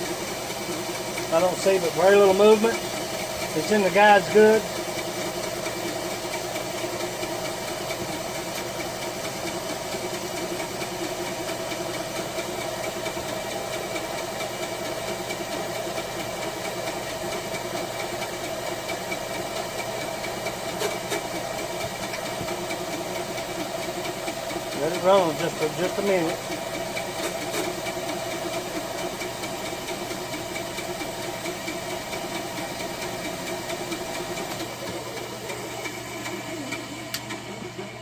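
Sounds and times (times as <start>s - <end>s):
band saw running: 0.0s - 38.0s.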